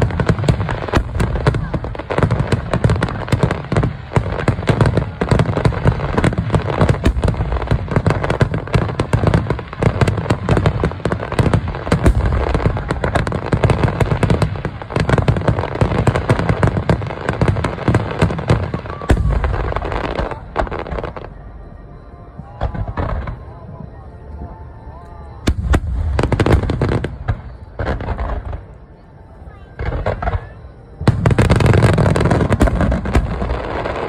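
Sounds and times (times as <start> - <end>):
fireworks booming and crackling: 0.0 - 24.6, 25.3 - 34.0.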